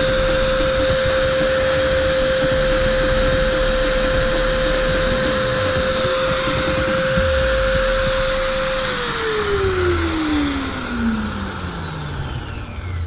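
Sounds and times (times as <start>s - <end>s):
electric drill whining: 0.0s - 13.0s.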